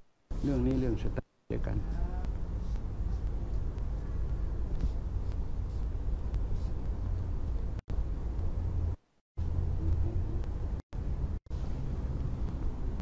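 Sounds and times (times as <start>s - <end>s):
steady low rumble: 0.3s - 13.0s.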